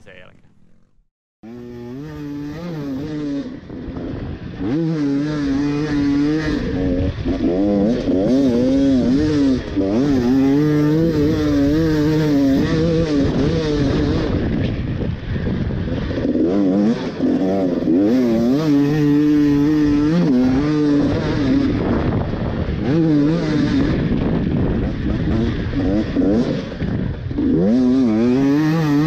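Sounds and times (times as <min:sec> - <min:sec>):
motocross bike engine revving: 0:01.4 - 0:29.0.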